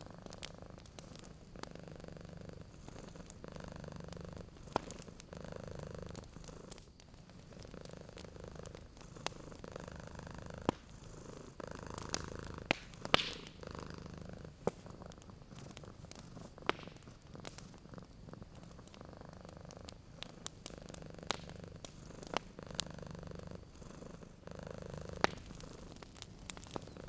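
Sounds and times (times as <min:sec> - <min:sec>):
cat purring: 0:00.0 - 0:27.0
wood fire crackling and popping: 0:00.0 - 0:27.0.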